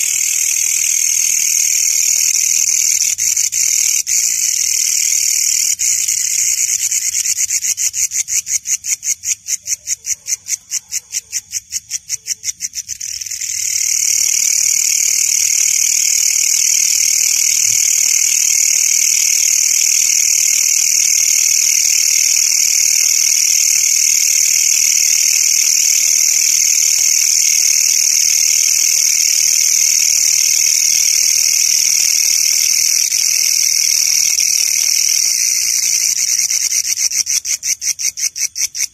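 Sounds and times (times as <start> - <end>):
night insects trilling: 0.0 - 38.9.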